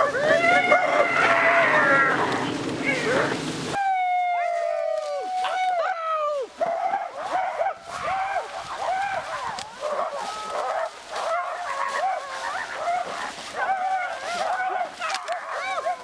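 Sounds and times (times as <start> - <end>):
people imitating barking dogs: 0.0 - 4.6, 5.3 - 16.0.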